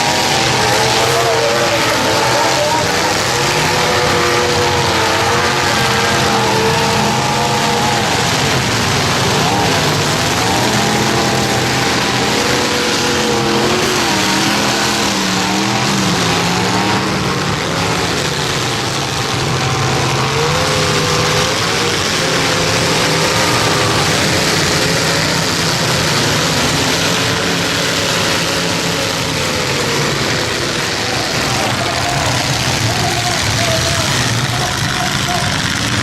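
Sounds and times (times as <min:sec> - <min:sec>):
crowd noise: 0:00.0 - 0:36.0
truck engines revving: 0:00.0 - 0:36.0.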